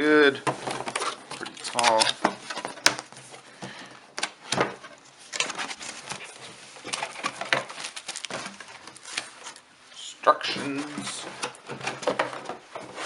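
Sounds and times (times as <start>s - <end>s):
packing rustling and scraping: 0.5s - 3.6s, 4.4s - 9.7s, 10.4s - 13.0s.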